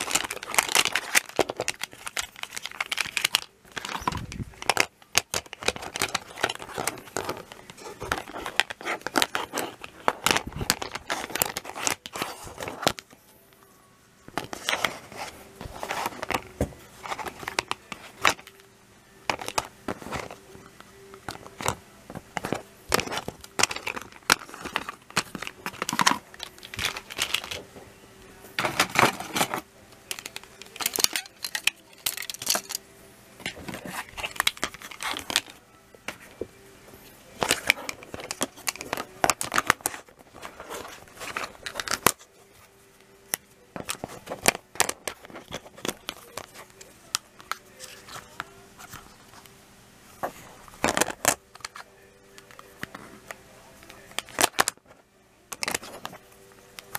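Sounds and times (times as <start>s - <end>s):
crinkling: 0.0s - 13.7s, 14.3s - 56.9s.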